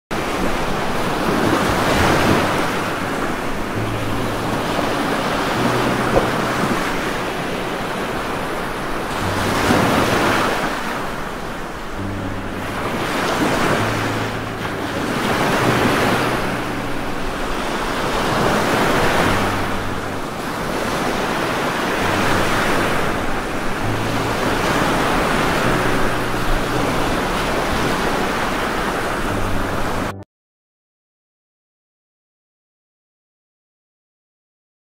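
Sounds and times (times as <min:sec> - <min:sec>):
low hum notes: 0:00.5 - 0:28.1, 0:29.2 - 0:30.2.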